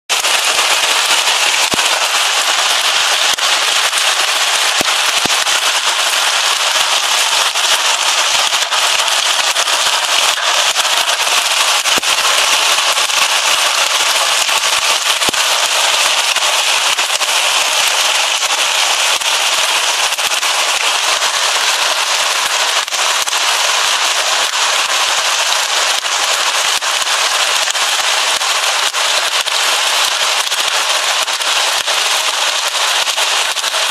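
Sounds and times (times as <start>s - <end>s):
hail clattering: 0.1s - 33.9s
rain hissing: 0.1s - 33.9s.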